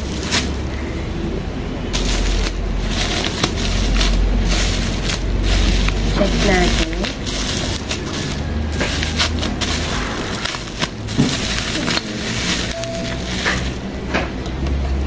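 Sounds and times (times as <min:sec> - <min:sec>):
bubble wrap crinkling: 0:00.0 - 0:01.0, 0:01.8 - 0:14.1.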